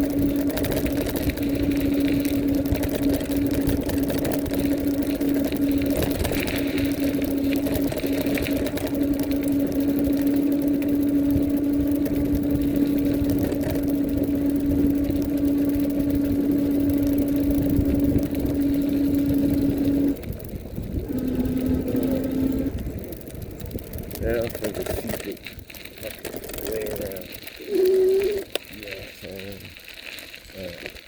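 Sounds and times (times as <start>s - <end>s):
electric motor whining: 0.0s - 29.6s
tyres rumbling: 0.0s - 31.0s
wind: 0.0s - 31.0s.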